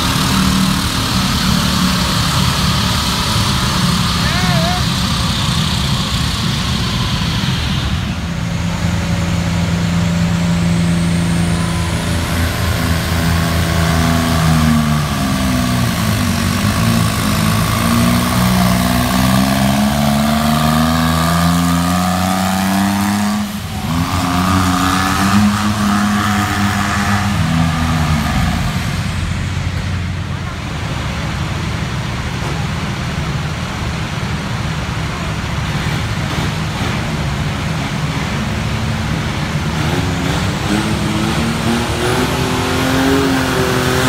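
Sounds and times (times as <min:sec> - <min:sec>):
diesel tractor engines running hard: 0:00.0 - 0:44.0.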